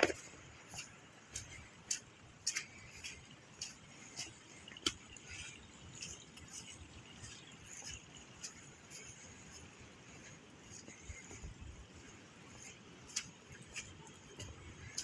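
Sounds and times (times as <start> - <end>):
footsteps on wet ground: 0.0 - 15.0.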